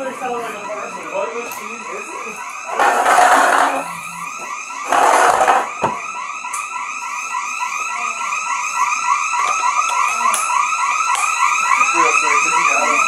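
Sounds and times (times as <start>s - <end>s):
burglar alarm chirping: 0.0s - 13.0s.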